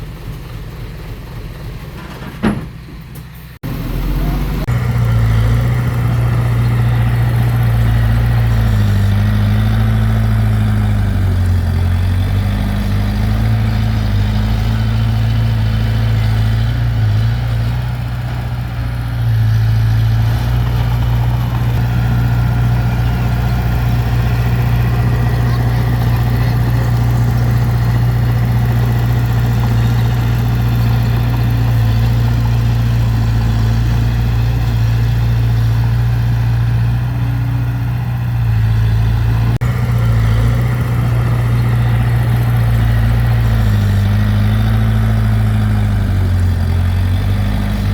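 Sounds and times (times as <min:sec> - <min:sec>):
heavy diesel engine under load: 0:00.0 - 0:47.9.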